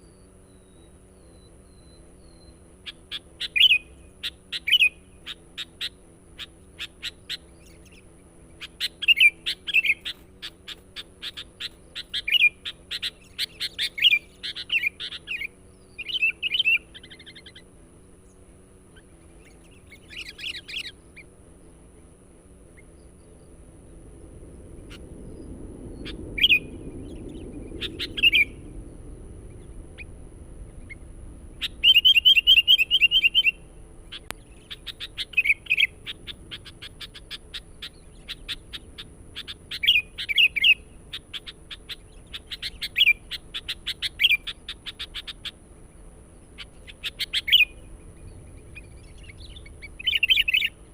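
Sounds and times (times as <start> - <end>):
bird chirping: 0.0 - 21.3, 24.9 - 30.2, 30.8 - 50.9.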